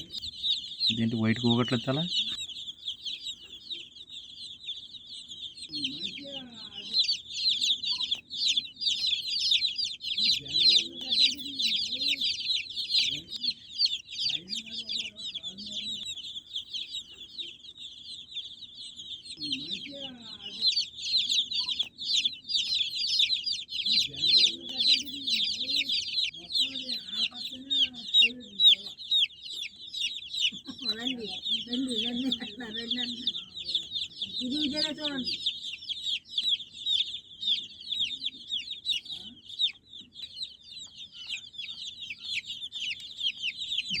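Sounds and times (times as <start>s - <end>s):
baby chicks peeping: 0.0s - 44.0s.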